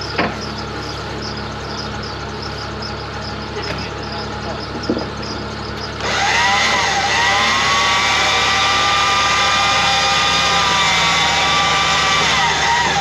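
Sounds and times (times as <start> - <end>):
motor whining: 0.0 - 13.0
vehicle engine idling: 0.0 - 13.0.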